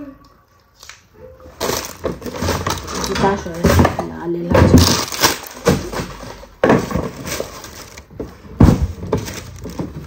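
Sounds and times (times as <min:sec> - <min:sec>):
plastic packaging crinkling: 0:00.7 - 0:10.0.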